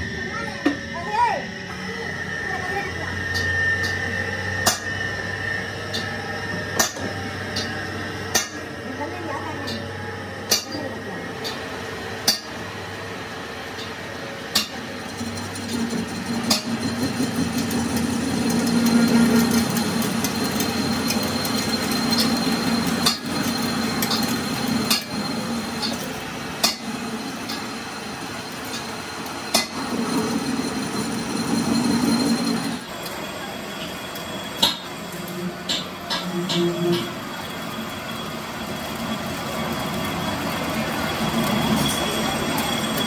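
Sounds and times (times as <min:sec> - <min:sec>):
high whine: 0:00.0 - 0:43.0
metal lathe humming: 0:00.0 - 0:43.0.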